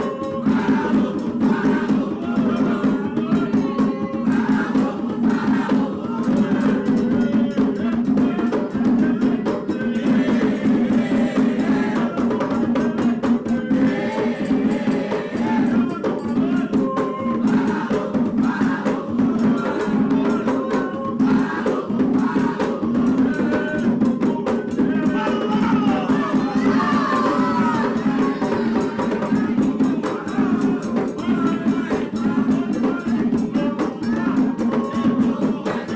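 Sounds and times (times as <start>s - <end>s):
group singing: 0.0s - 35.9s
hand drums playing: 0.0s - 35.9s.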